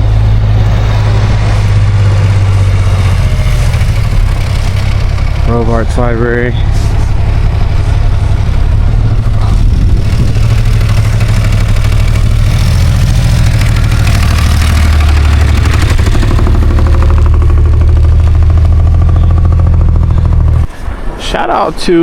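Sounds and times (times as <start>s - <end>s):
engine running: 0.0s - 21.2s.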